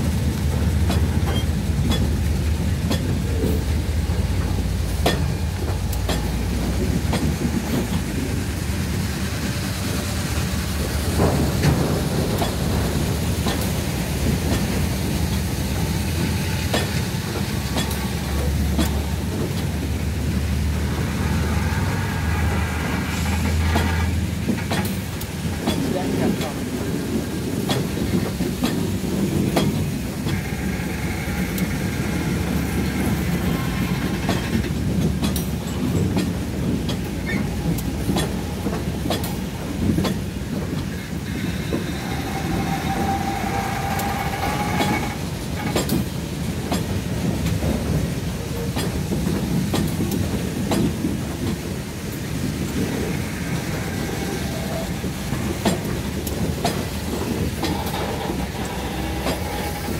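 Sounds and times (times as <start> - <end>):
diesel and wheel rumble: 0.0 - 59.9
wheels clicking over rails: 0.0 - 59.9.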